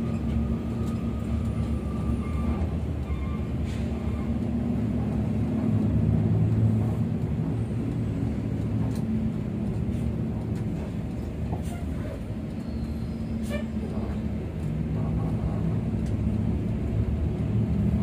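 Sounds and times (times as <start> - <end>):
bus engine drone from inside: 0.0 - 18.0
tyre and road noise: 0.0 - 18.0.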